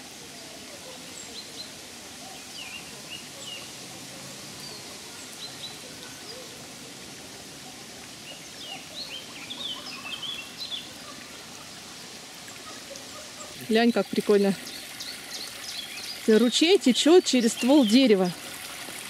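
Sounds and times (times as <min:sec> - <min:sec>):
brook trickling: 0:00.0 - 0:19.0
songbirds chirping and whistling: 0:00.6 - 0:03.8, 0:04.5 - 0:06.6, 0:07.7 - 0:18.4.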